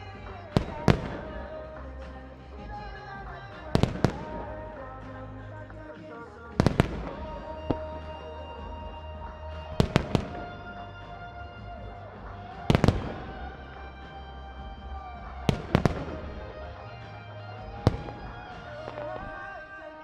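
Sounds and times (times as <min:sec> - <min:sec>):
music from loudspeakers: 0:00.0 - 0:20.0.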